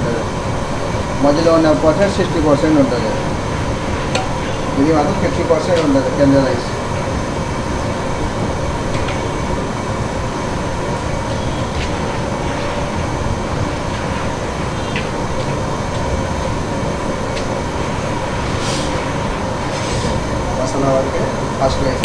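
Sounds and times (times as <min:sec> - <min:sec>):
gas burner roaring: 0:00.0 - 0:22.0.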